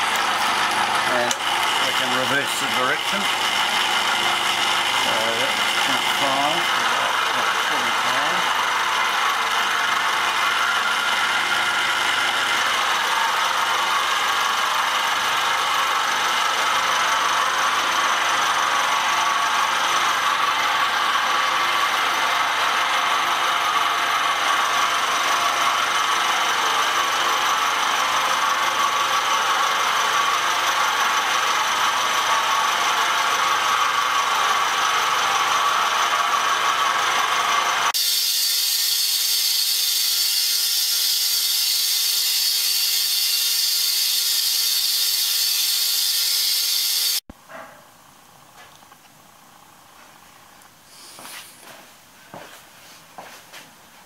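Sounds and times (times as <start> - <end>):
milling machine cutting metal: 0.0 - 47.2.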